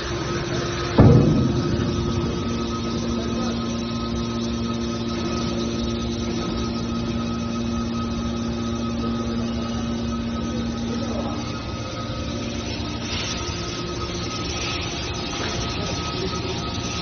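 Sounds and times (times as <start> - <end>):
baler machine hum: 0.0 - 17.0.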